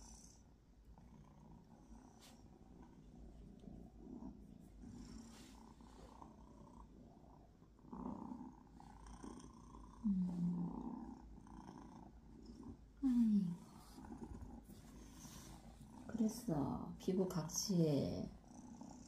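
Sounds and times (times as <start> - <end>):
kitten purring: 0.0 - 19.0.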